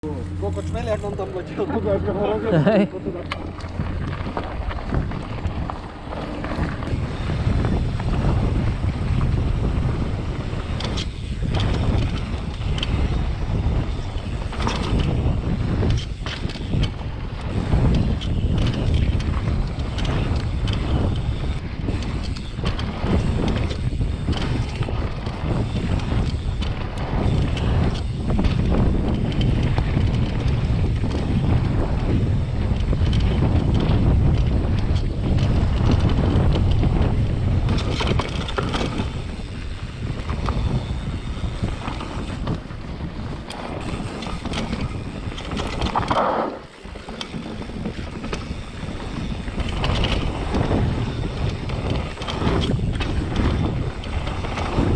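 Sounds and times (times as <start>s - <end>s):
tyres rumbling on dirt: 0.0s - 54.9s
wind rushing over microphone: 0.0s - 54.9s
bike knocks and rattles: 0.1s - 54.9s.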